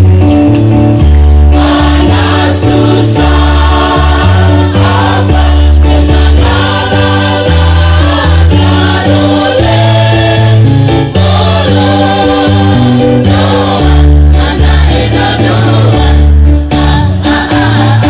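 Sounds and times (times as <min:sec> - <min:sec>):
deep bass line: 0:00.0 - 0:18.0
choir singing in harmony: 0:01.5 - 0:18.0.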